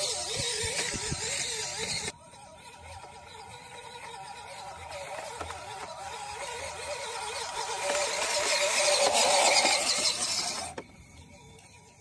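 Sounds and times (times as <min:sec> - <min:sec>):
electric motor and gearbox whining: 0:00.0 - 0:12.0.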